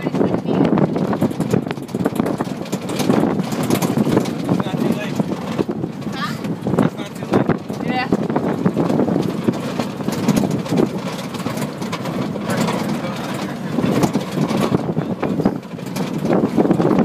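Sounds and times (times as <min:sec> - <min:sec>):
jeep driving on dirt track: 0:00.0 - 0:17.0
jolting knocks from bumps: 0:00.0 - 0:17.0
wind buffeting microphone: 0:00.0 - 0:17.0.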